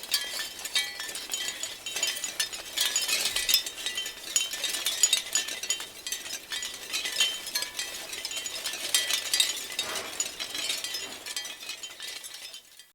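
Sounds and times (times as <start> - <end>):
shell wind chimes clattering: 0.0 - 12.9.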